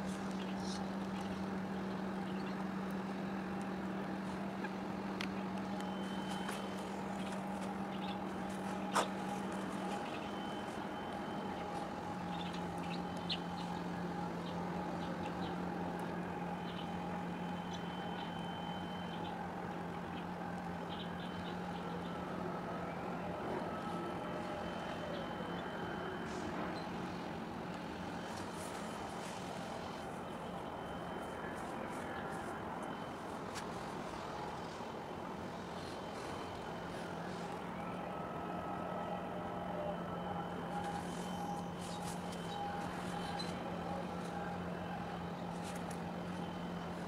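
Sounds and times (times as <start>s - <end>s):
machinery drone: 0.0s - 47.0s.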